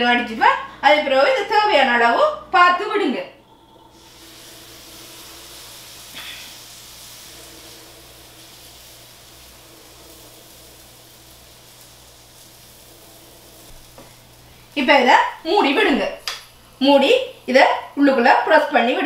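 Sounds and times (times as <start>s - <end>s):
low steady hum: 0.0s - 19.0s
waffle batter sizzling: 2.7s - 19.0s.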